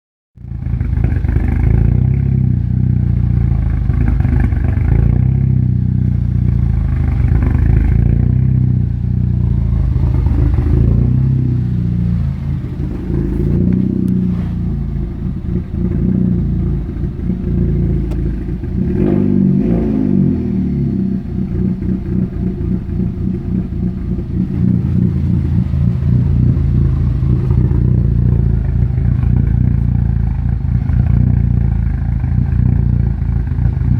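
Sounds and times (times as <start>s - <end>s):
vehicle engine idling roughly: 0.4s - 19.0s, 20.7s - 33.9s.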